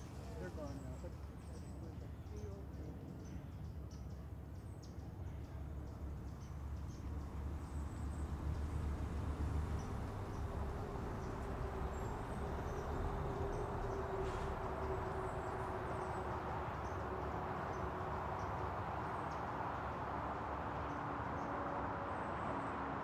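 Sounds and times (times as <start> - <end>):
birds chirping: 0.0 - 21.8
traffic rumble: 0.0 - 23.0.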